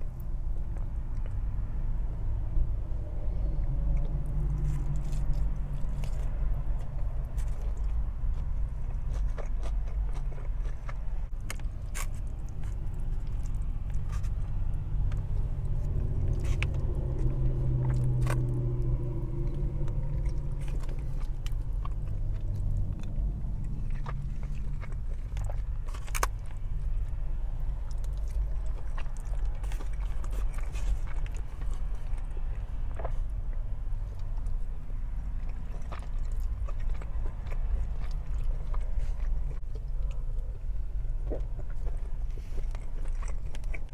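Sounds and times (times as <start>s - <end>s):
close chewing and biting: 0.0s - 43.9s
low rumble: 0.0s - 43.9s.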